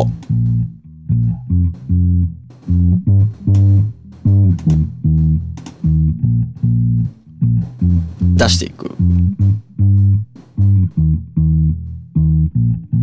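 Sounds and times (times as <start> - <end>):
plucked electric bass notes: 0.0 - 13.0.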